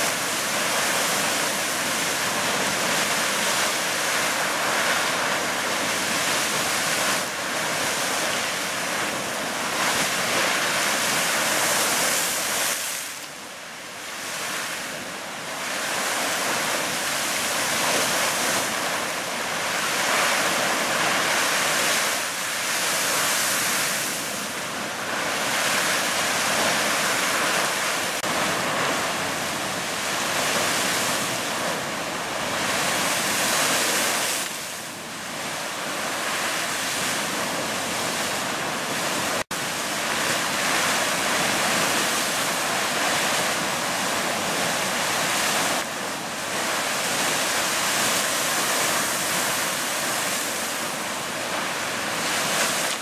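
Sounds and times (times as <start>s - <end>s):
geyser splashing water: 0.0s - 13.2s, 15.4s - 53.0s
venting steam: 0.0s - 53.0s.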